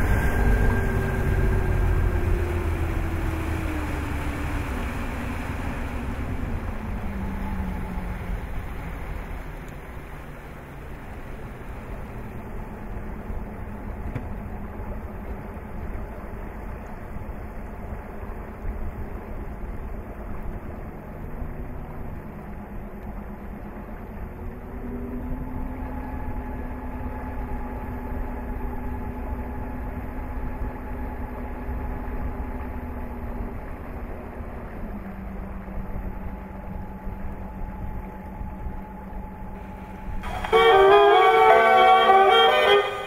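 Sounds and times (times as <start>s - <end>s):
electric boat motor whine: 0.0s - 16.6s, 23.6s - 43.0s
water and wind rushing: 0.0s - 43.0s.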